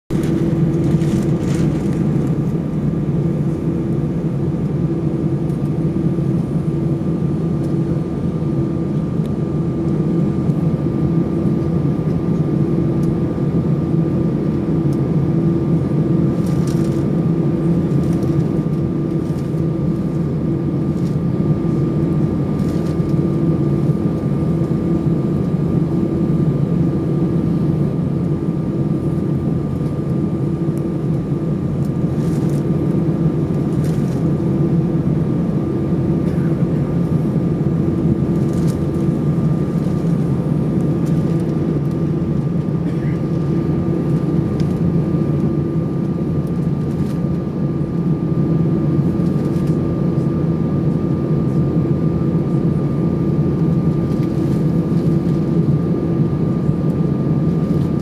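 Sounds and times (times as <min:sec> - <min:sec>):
airplane cabin drone: 0:00.1 - 0:58.0.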